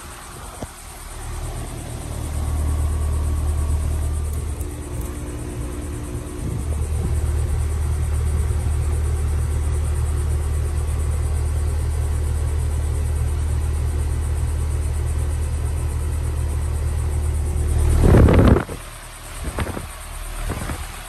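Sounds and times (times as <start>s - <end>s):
heat pump humming: 0.0s - 21.0s.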